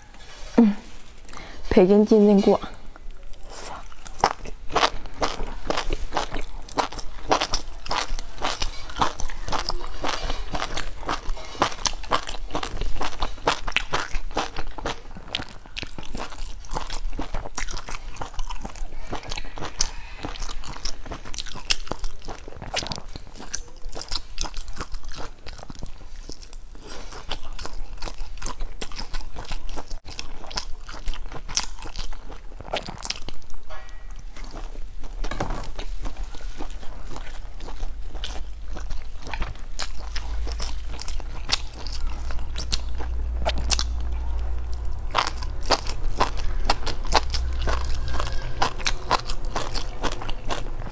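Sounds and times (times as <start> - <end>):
person chewing crunchy food: 2.7 - 50.9.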